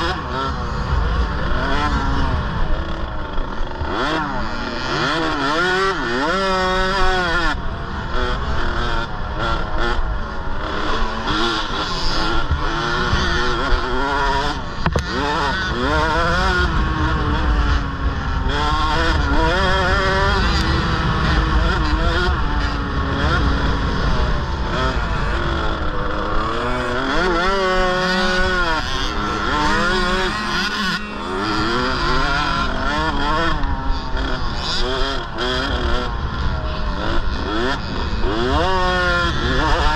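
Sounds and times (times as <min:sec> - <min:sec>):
two-stroke motorcycle engines revving: 0:00.0 - 0:39.9.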